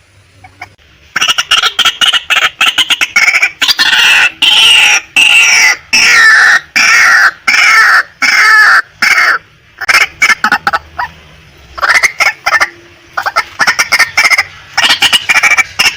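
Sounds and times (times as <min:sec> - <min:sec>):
bird clucking notes: 0:00.4 - 0:15.9
waterhen harsh calls: 0:00.4 - 0:15.9.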